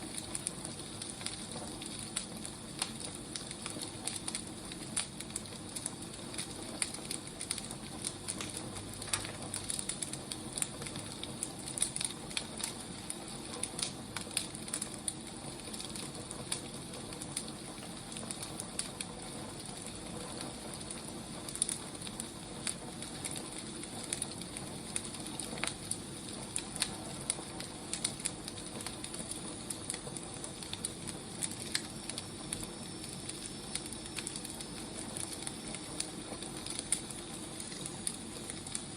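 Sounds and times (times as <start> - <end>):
firewood burning with crackles: 0.0 - 38.9.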